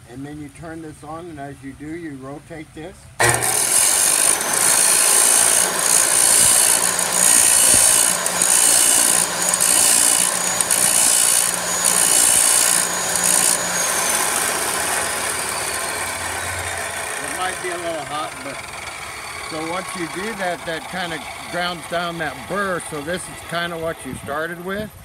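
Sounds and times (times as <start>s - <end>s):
chop saw grinding metal rod: 3.2s - 24.8s
saw wheel whine winding down: 3.2s - 24.9s.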